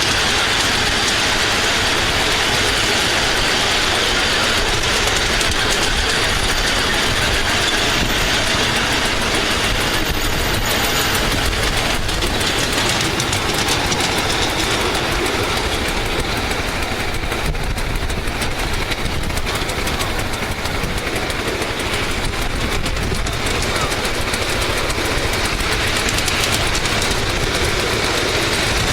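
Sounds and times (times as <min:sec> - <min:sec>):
train wheels clattering on rail: 0:00.0 - 0:28.9.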